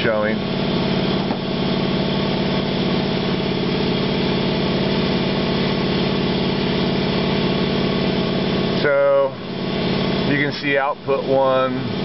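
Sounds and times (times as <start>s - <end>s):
machine motor humming and pulsing: 0.0s - 12.0s.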